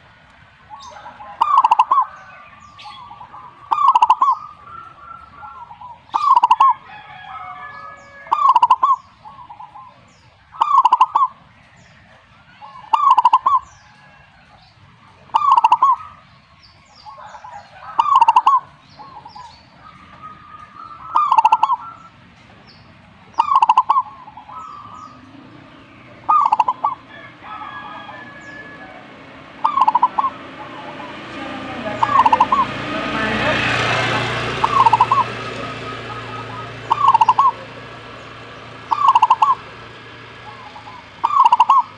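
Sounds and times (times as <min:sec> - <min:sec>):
dove cooing: 0:00.6 - 0:11.4, 0:12.5 - 0:14.3, 0:15.2 - 0:16.3, 0:17.0 - 0:22.6, 0:23.2 - 0:41.9.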